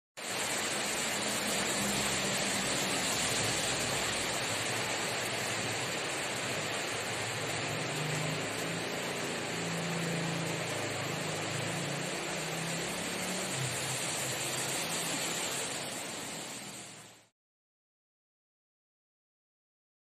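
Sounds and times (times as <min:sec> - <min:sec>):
rain on water and leaves: 0:00.2 - 0:17.3.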